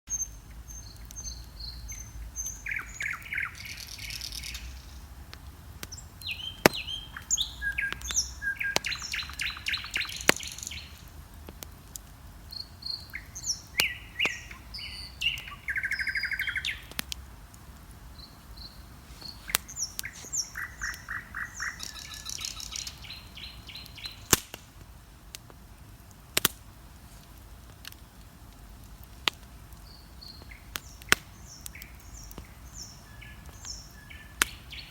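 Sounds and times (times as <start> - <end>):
songbirds singing: 0.1 - 11.3, 12.1 - 24.6, 29.2 - 34.9
bonfire crackling and popping: 0.1 - 34.9.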